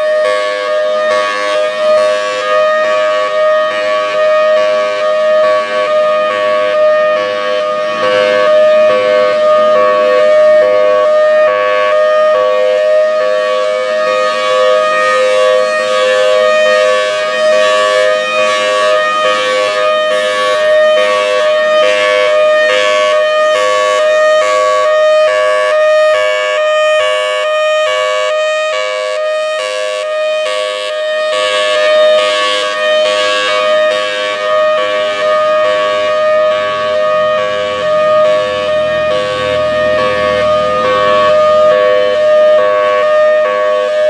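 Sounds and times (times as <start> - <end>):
two-tone tornado siren: 0.0 - 44.0.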